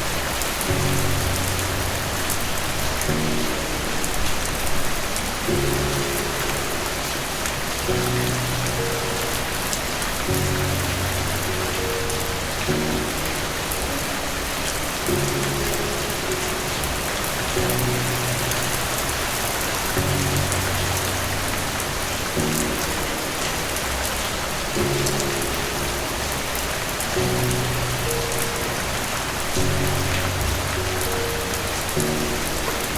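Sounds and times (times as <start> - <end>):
heavy rain falling: 0.0 - 32.9
soft slow low music notes: 0.0 - 32.9.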